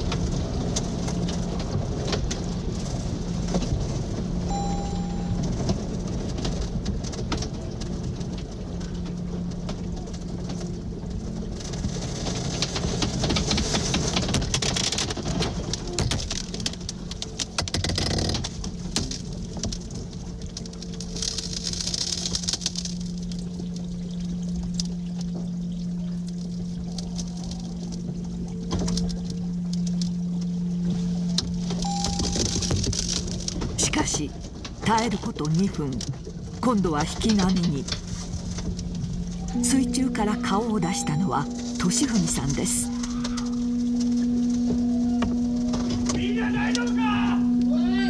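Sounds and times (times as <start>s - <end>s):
steady low hum: 0.0s - 17.8s, 18.4s - 48.0s
floodwater churning and rushing: 0.0s - 48.0s.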